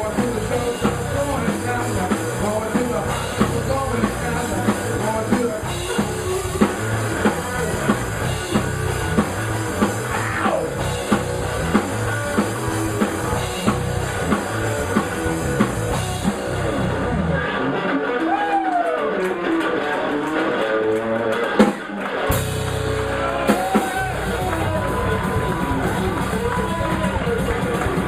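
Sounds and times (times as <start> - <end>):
drum kit beat: 0.0 - 17.4, 21.5 - 28.0
bass guitar: 0.0 - 28.0
electric guitar: 0.0 - 28.0.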